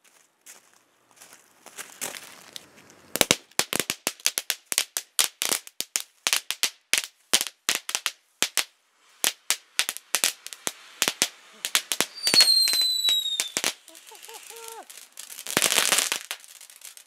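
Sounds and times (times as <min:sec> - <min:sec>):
crackling fireworks: 0:02.0 - 0:17.0.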